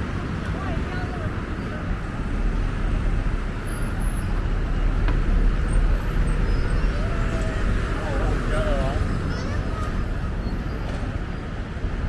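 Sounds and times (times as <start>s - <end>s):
faint voices of passers-by: 0.0s - 12.0s
low traffic rumble: 0.0s - 12.0s.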